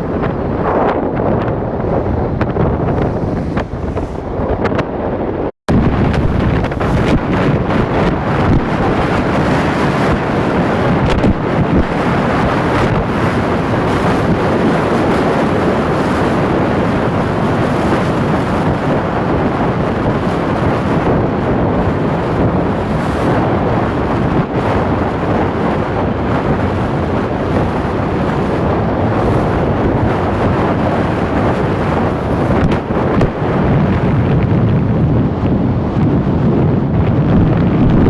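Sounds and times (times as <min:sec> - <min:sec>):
sea water rushing: 0:00.0 - 0:35.8
wind buffeting microphone: 0:00.0 - 0:38.0.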